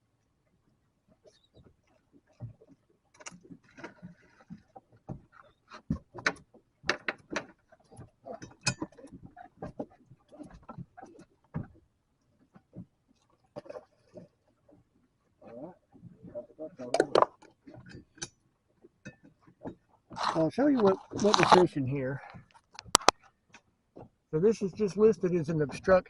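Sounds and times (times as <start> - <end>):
fishing gear clicks and clatter: 1.2 - 24.8.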